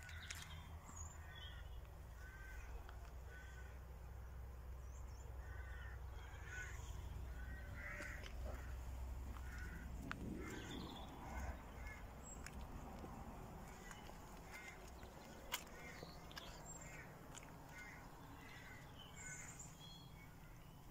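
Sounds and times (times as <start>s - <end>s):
crows cawing: 0.0s - 4.0s, 5.4s - 19.7s.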